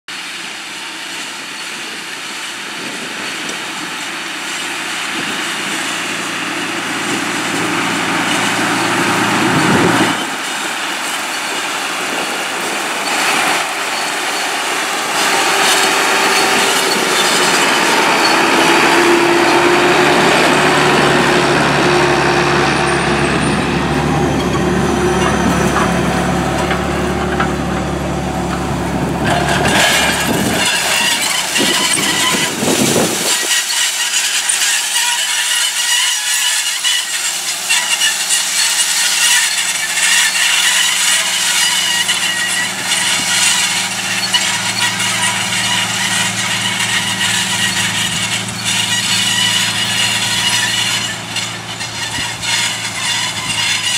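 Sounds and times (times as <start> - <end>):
tractor diesel engine: 0.0 - 53.9.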